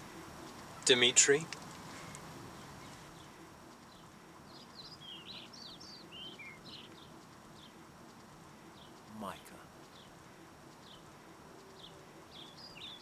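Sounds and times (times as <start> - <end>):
faint outdoor background noise: 0.0 - 13.0
small songbird chirping: 1.8 - 9.1, 9.8 - 13.0.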